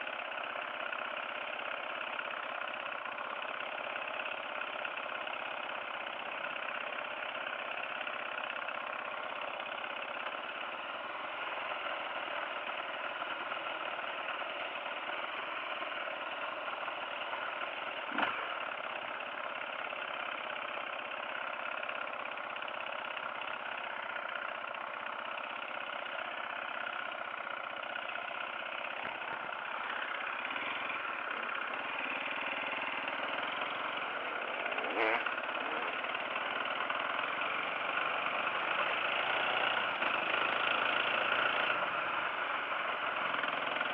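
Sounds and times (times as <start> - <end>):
dirt bike engine running: 0.0 - 43.9.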